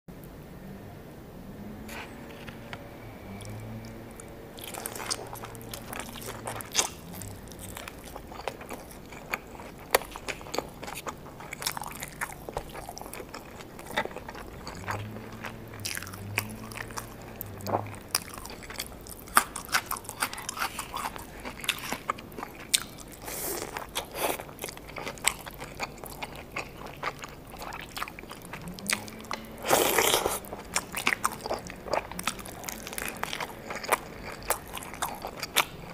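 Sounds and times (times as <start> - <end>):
chewing: 1.9 - 35.9.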